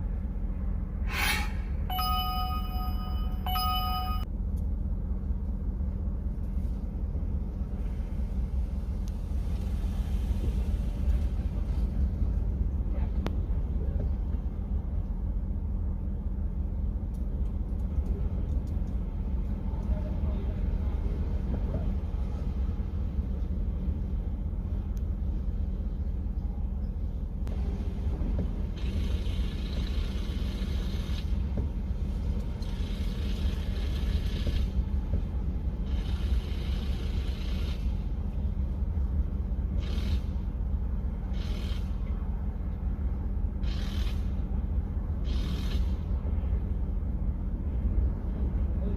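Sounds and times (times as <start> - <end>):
low rumble: 0.0 - 48.9.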